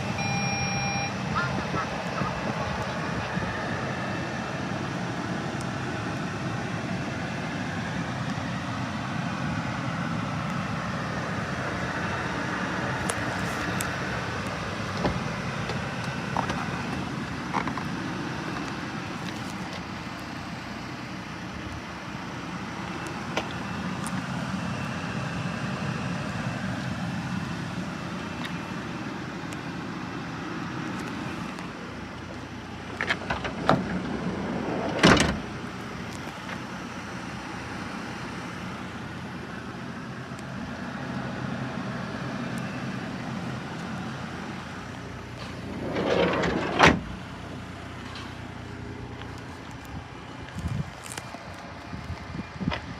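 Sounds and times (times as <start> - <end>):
car engine idling hum: 0.0 - 52.9.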